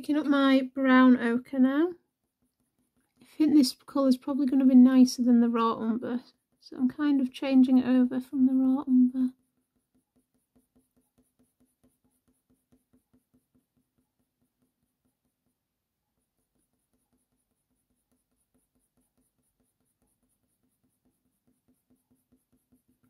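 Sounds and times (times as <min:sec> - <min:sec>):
pencil strokes on paper: 0:00.1 - 0:23.0.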